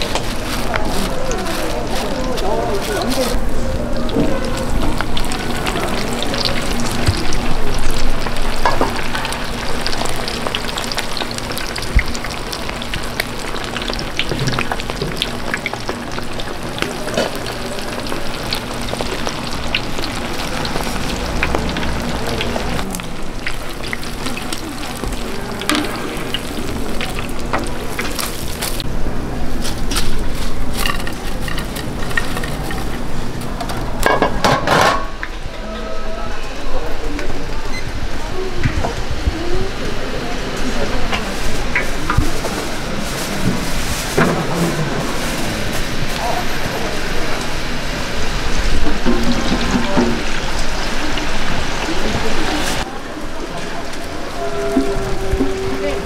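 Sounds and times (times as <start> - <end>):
food frying sizzle: 0.0 - 35.5, 37.2 - 56.0.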